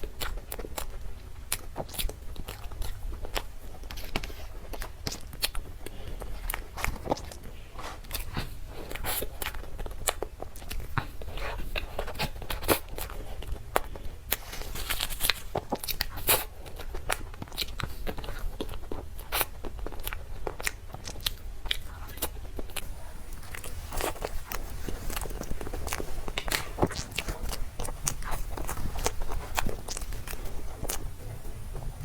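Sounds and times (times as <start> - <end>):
person chewing dessert: 0.0 - 32.0.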